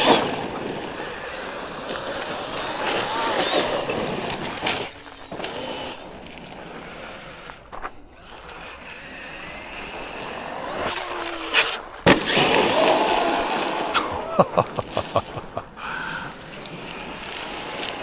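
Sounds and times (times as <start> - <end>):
electric motor whining: 0.0 - 18.0
tyres crunching over gravel: 0.0 - 18.0.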